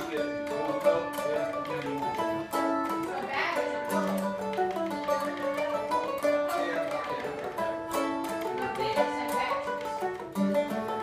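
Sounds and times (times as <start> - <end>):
mandolin picked melody: 0.0 - 11.0.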